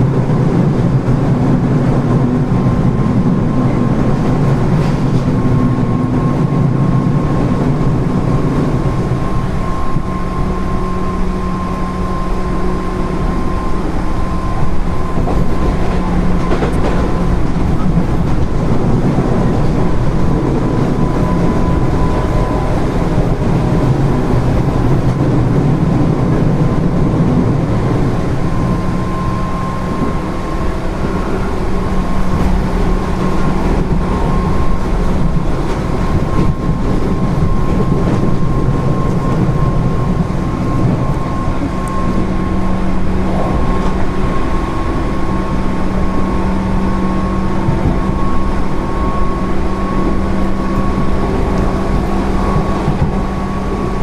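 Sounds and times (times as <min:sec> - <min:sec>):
electric train motor hum and whine: 0:00.0 - 0:54.0
wheel-on-rail noise: 0:00.0 - 0:54.0.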